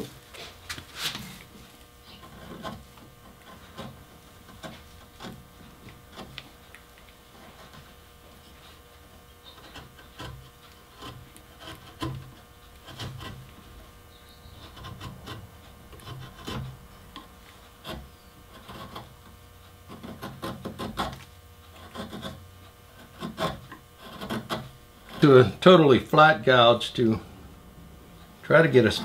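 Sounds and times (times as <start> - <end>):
chisel scraping wood: 0.0 - 29.0.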